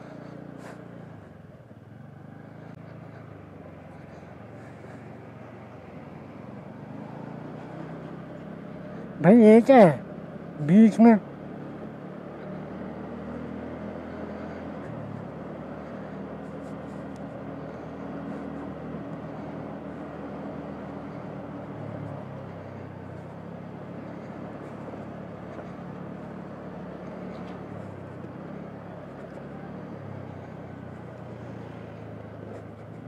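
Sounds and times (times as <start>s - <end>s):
motorbike engine running: 0.0s - 33.0s
wind and road noise: 0.0s - 33.0s.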